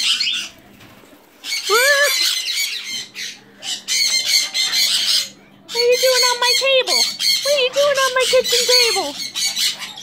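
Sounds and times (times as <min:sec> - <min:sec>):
parrots squawking: 0:00.0 - 0:00.6, 0:01.4 - 0:10.0.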